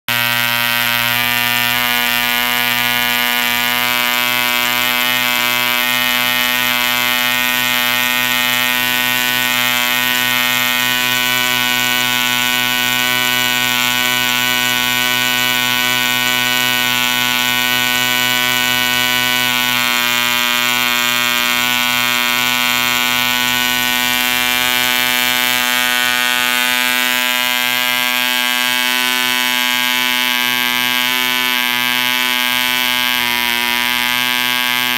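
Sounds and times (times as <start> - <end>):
model engine running: 0.0 - 34.9.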